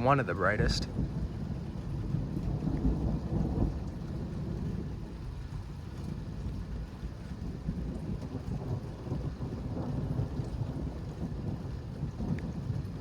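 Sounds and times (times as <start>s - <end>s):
thunder rumbling: 0.0s - 6.7s, 7.4s - 12.9s
rain: 0.0s - 13.0s
wind: 0.0s - 13.0s.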